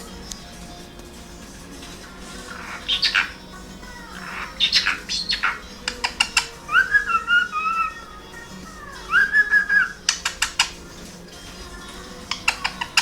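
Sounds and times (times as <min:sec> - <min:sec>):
cockatiel chirping: 0:00.0 - 0:13.0
cockatiel whistling: 0:00.0 - 0:13.0.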